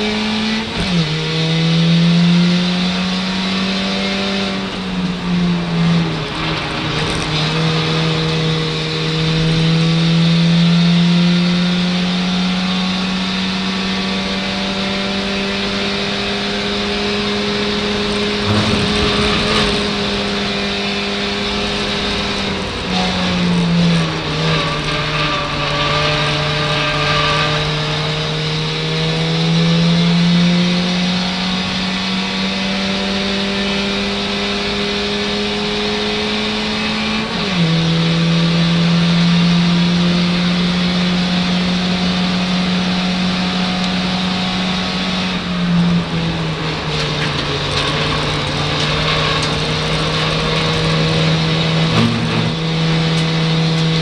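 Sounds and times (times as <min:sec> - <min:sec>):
race car engine under full load: 0:00.0 - 0:54.0.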